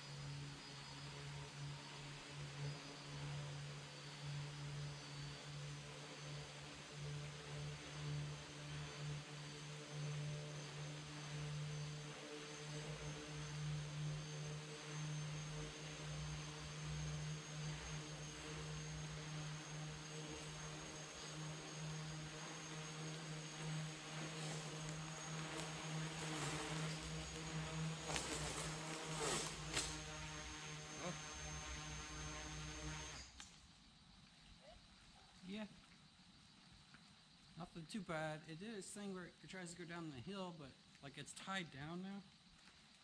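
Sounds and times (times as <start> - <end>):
small aircraft engine humming: 0.0 - 43.0.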